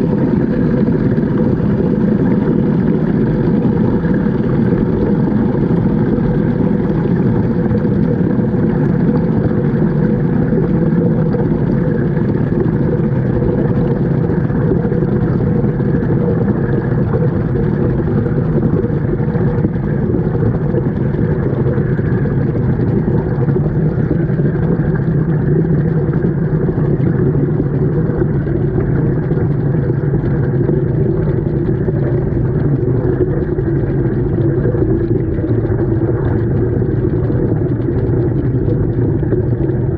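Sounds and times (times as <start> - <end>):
washing machine churning rumble: 0.0 - 39.9.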